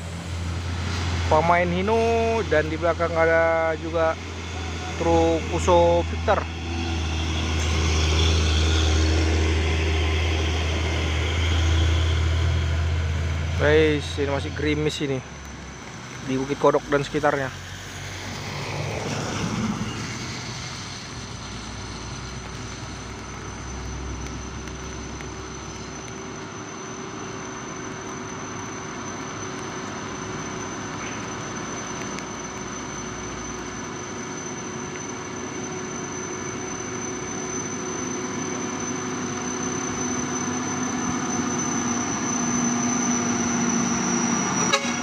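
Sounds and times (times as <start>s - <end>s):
truck diesel engine: 0.0s - 45.0s
tyres hissing on wet road: 0.0s - 45.0s.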